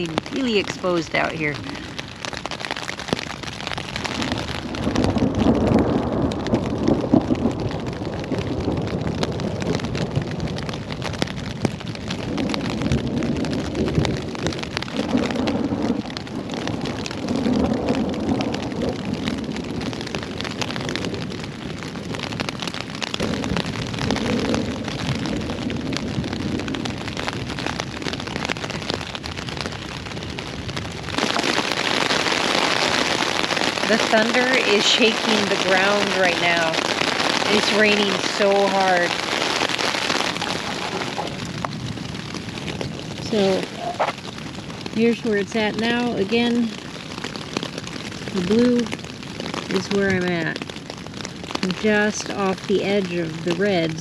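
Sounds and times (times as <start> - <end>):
hard rain on a tent: 0.0 - 54.0
thunder rumbling: 0.0 - 54.0.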